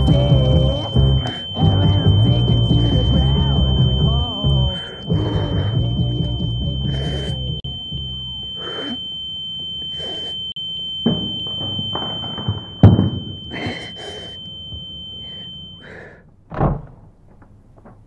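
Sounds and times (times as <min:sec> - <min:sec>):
high-pitched ringing tone: 0:00.0 - 0:16.2.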